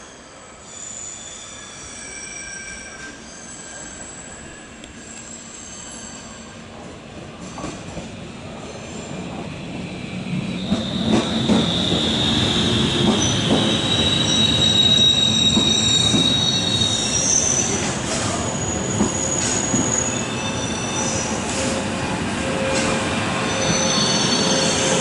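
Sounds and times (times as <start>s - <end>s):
high steady brake squeal: 0.0s - 6.6s, 10.5s - 25.0s
electric train arriving: 0.0s - 25.0s.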